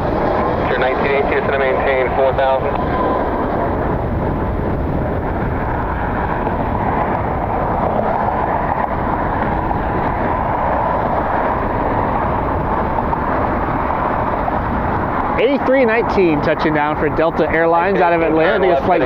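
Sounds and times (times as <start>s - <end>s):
jet engines droning: 0.0s - 19.0s
wind buffeting microphone: 0.0s - 19.0s.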